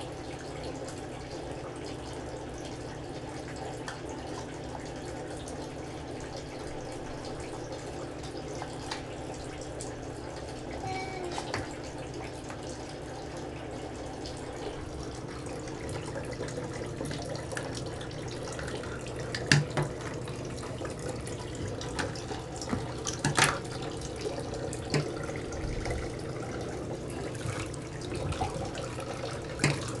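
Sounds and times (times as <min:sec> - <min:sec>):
low steady hum: 0:00.0 - 0:30.0
water running into bathtub: 0:00.0 - 0:30.0
water splashes: 0:02.9 - 0:30.0.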